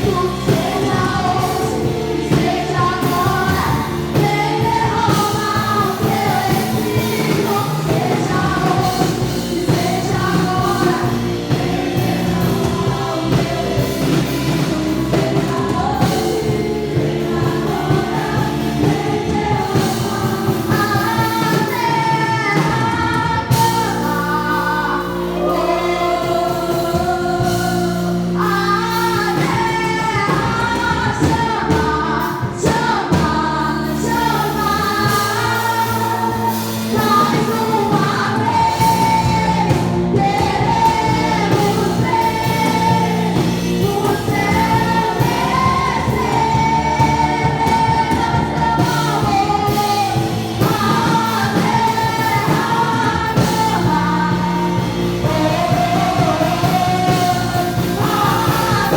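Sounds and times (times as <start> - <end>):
group singing worship song: 0.0 - 58.9
sustained instrumental backing: 0.0 - 58.9.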